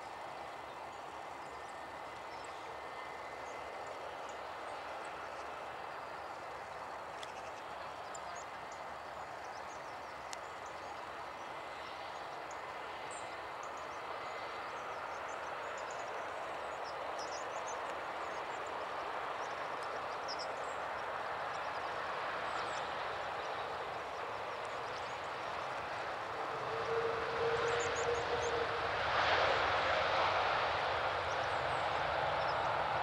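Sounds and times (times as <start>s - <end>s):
jet airliner passing: 0.0s - 33.0s.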